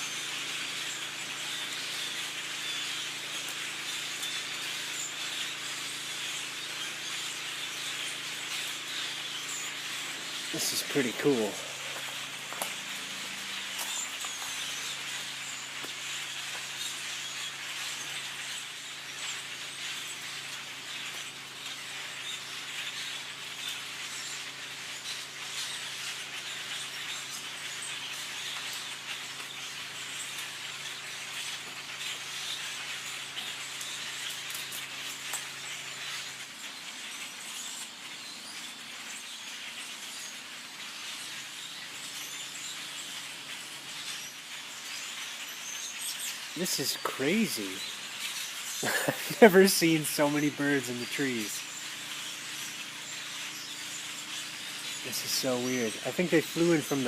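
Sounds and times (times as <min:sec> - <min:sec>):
flock of blackbirds chattering: 0:00.0 - 0:57.0
low mechanical hum: 0:00.0 - 0:57.0.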